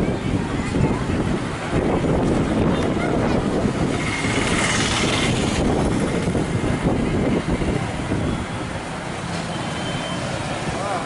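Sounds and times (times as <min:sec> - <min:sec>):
outdoor market rumble: 0:00.0 - 0:11.0.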